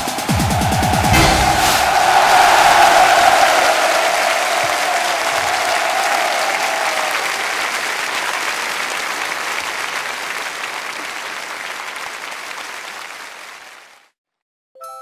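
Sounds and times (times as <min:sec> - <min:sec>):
audience applause: 0:00.0 - 0:14.2.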